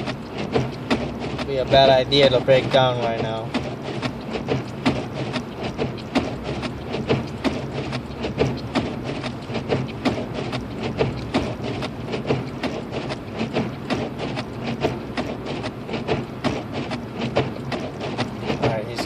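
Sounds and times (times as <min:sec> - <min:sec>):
car engine and road hum: 0:00.0 - 0:19.0
snow ticking on car: 0:00.0 - 0:19.0.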